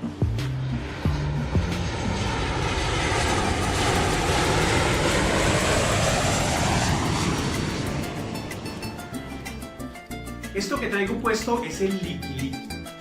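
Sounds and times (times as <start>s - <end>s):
aircraft passing overhead: 0.0s - 12.0s.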